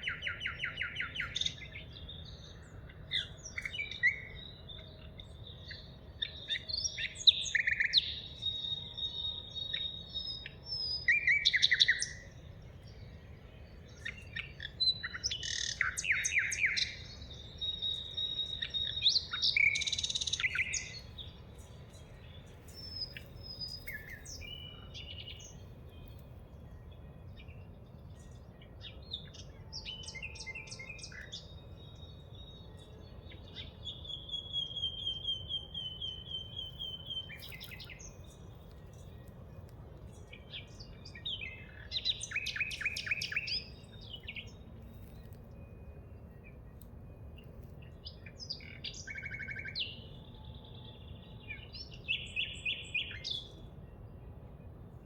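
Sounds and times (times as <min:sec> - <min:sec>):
songbirds singing and calling: 0:00.0 - 0:55.0.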